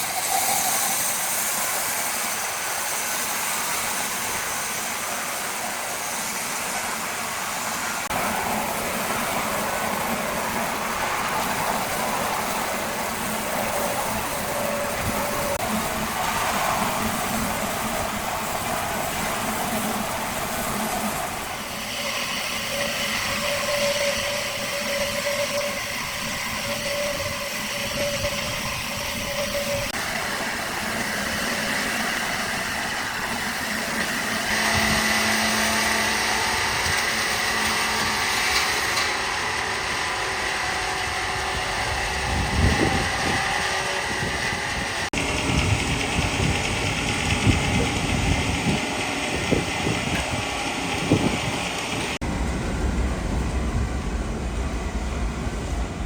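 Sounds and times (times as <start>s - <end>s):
heavy machinery running: 0.0s - 56.0s.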